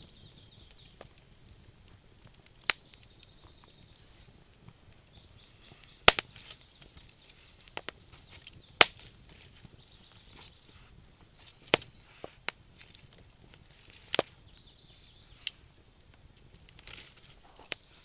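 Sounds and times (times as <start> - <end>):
loud sharp fire pops: 0.0 - 18.0
wood fire crackling: 0.0 - 18.0.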